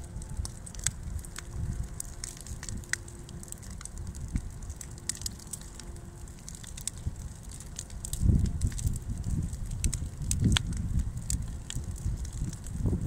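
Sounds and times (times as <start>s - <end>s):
low fire rumble: 0.0s - 13.0s
twigs crackling and popping: 0.0s - 13.0s.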